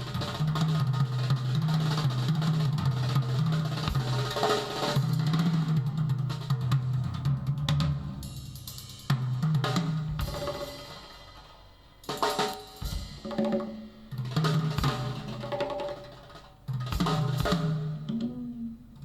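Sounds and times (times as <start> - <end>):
drum-heavy music with bass line: 0.0 - 19.0.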